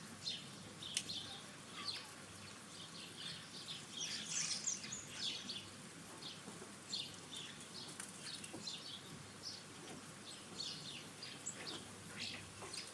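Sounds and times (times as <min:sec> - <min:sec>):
small birds chirping and twittering: 0:00.0 - 0:12.9.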